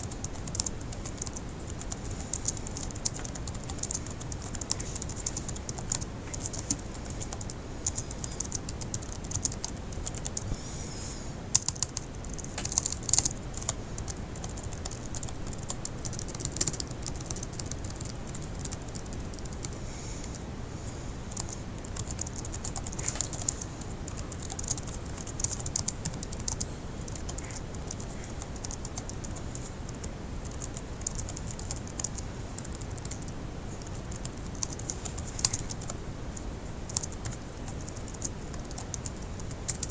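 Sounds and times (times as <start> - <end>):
fast typing on laptop keyboard: 0.0 - 10.5, 11.5 - 20.4, 21.3 - 39.9.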